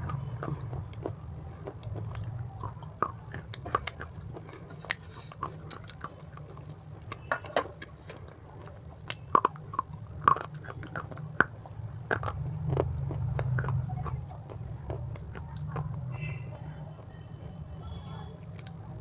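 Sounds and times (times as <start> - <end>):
crunchy chewing of chips: 0.0 - 16.2.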